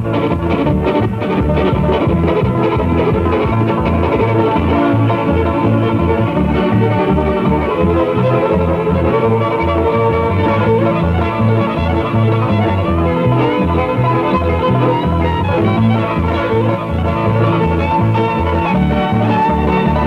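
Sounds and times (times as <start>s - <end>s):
upbeat country music: 0.0s - 20.0s.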